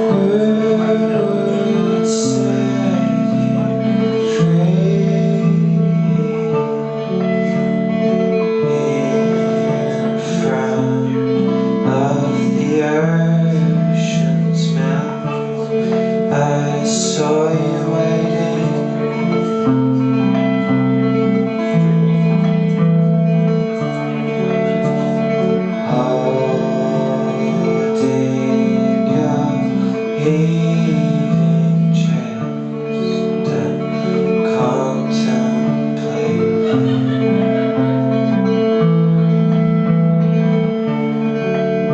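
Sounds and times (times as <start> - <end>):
guitar chords: 0.0 - 41.9
person singing: 0.0 - 41.9.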